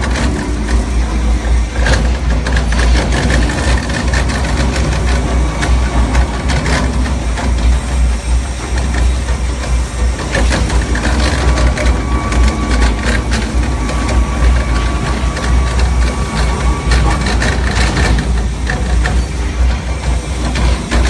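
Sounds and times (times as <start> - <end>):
shredder motor humming: 0.0 - 21.0.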